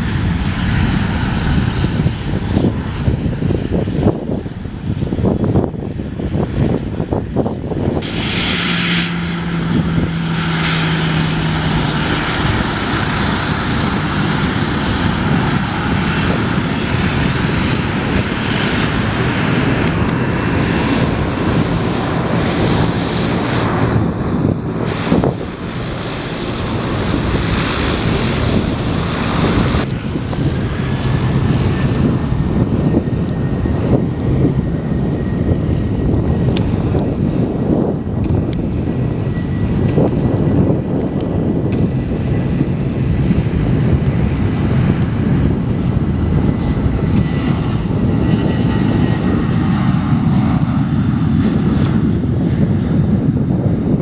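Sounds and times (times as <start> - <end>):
airplane engines running: 0.0 - 54.0.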